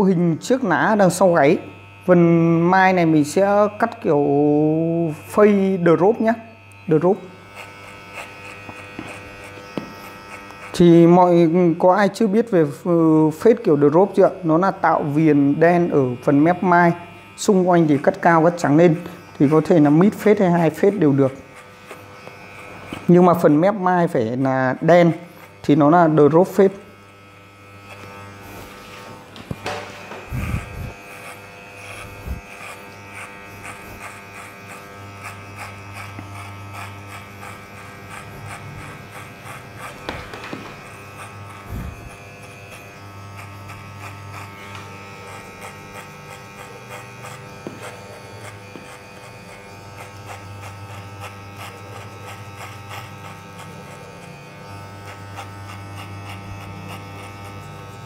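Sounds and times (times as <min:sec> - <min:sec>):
electric hair clipper buzzing: 0:00.0 - 0:58.0.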